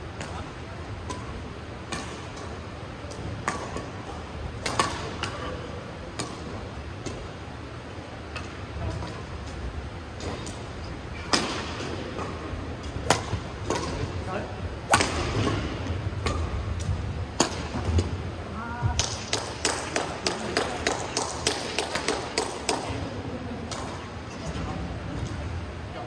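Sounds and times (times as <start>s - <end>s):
rackets hitting shuttlecock: 0.2s - 7.4s, 8.3s - 18.1s, 18.9s - 23.0s, 23.6s - 24.1s.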